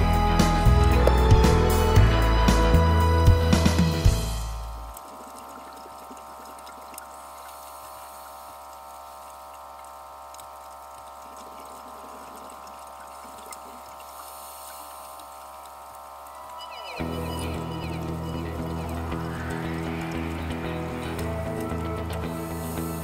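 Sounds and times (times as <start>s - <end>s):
steady underwater hum: 0.0s - 23.0s.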